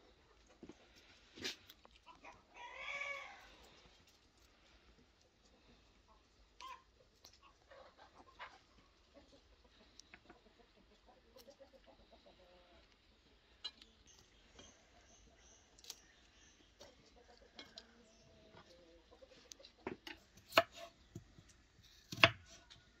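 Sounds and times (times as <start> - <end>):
chickens clucking: 0.0 - 3.8, 5.2 - 21.0.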